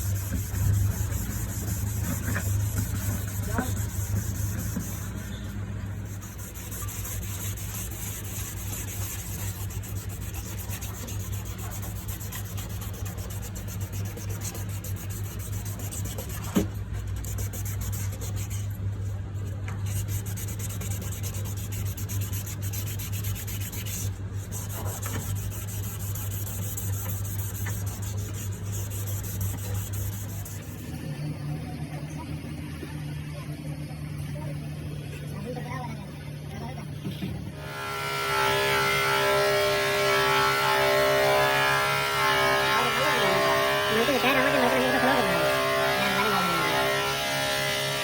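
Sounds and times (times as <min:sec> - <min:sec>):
sanding plastic lens: 0:00.0 - 0:05.3, 0:06.0 - 0:30.8, 0:38.5 - 0:48.0
steady low hum: 0:00.0 - 0:47.9.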